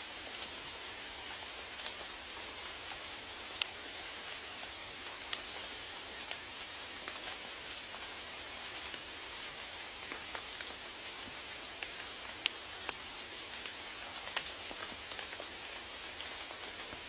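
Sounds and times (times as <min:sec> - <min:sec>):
rain hiss: 0:00.0 - 0:17.0
raindrops ticking on a surface: 0:00.0 - 0:17.0.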